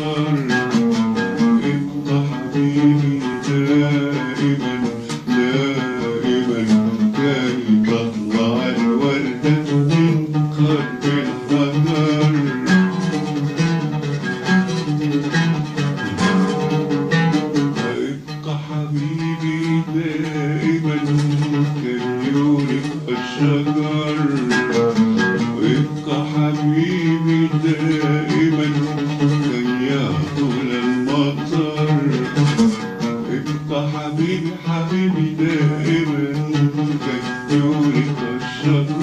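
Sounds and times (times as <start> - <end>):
oud melody: 0.0 - 39.0.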